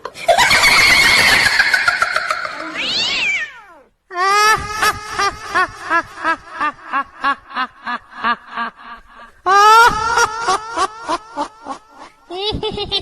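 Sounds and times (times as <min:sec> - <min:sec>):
ghostly cackling laugh: 0:00.0 - 0:03.2, 0:04.4 - 0:13.0.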